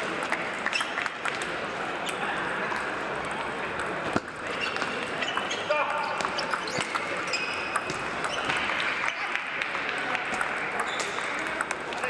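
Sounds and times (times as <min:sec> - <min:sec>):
murmur of sports hall: 0:00.0 - 0:12.0
table tennis balls clicking: 0:00.2 - 0:12.0.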